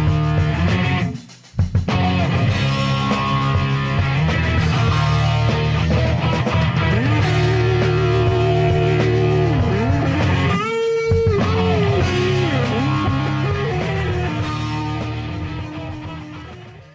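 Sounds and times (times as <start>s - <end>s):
electric guitar bending notes: 0.0s - 1.2s, 1.9s - 16.9s
bass line: 0.0s - 16.9s.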